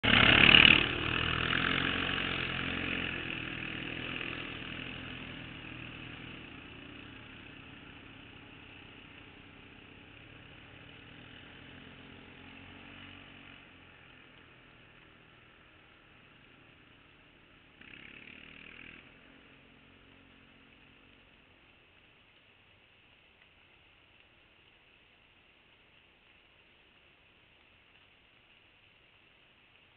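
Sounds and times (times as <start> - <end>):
atv engines passing: 0.0 - 24.9.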